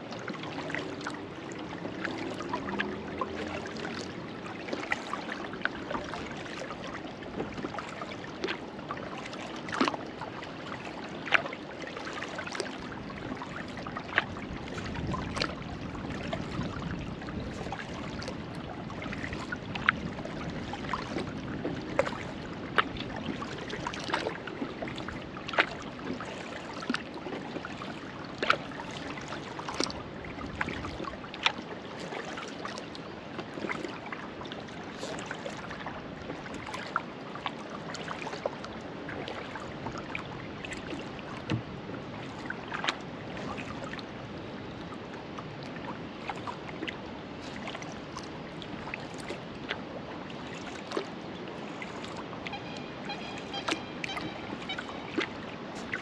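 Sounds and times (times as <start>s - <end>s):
paddle swishing and dripping: 0.0s - 56.0s
water splashes: 0.0s - 56.0s.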